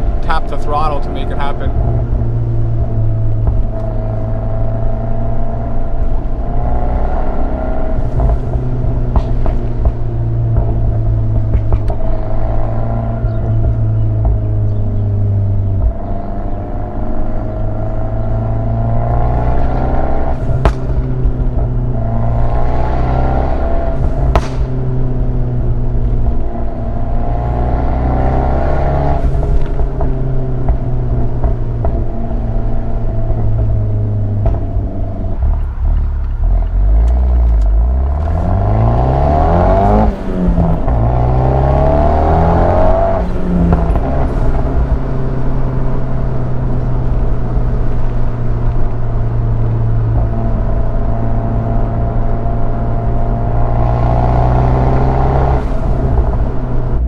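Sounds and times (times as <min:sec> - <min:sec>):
turbocharged car engine: 0:00.0 - 0:57.0.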